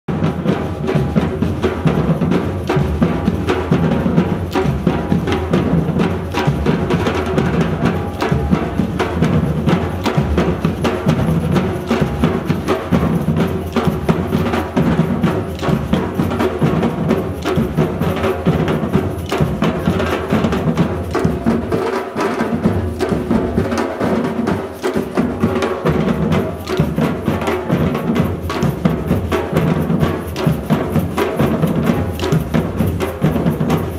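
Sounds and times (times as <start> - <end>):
drums beaten with sticks: 0.1 - 33.9.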